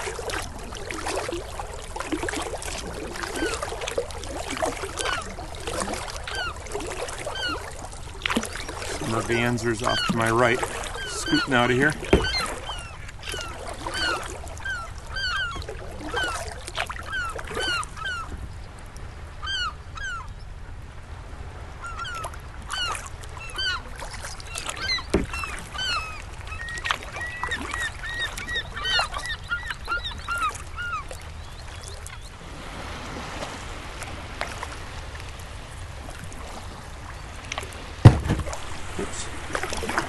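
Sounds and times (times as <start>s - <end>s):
water birds calling harshly: 0.0s - 20.6s, 21.6s - 40.0s.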